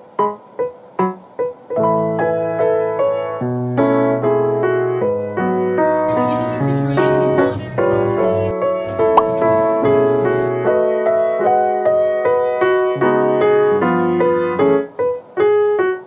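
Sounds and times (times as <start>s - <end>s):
faint room hiss: 0.0s - 16.0s
gentle piano music: 0.0s - 16.0s.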